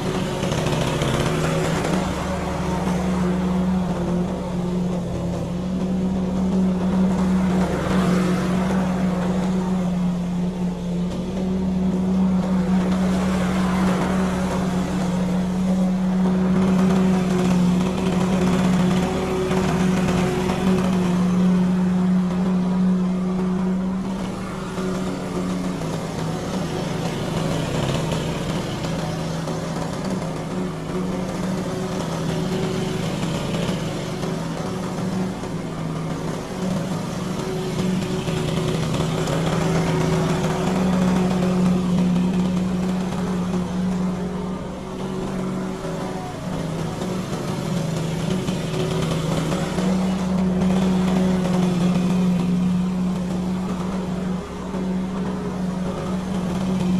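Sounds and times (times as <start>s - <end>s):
lawn mower engine running: 0.0s - 56.9s.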